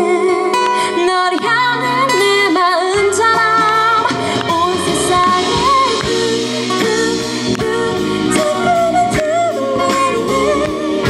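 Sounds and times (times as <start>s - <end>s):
band accompaniment: 0.0s - 11.0s
woman singing into a microphone: 0.0s - 11.0s.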